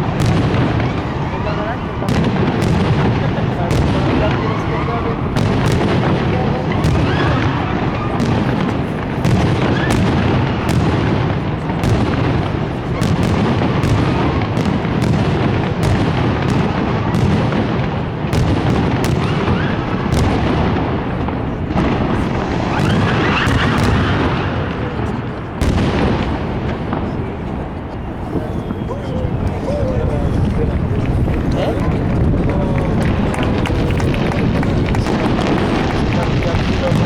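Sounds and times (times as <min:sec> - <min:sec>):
fireworks booms and bangs: 0:00.0 - 0:37.0
rumbling echoes: 0:00.0 - 0:37.0.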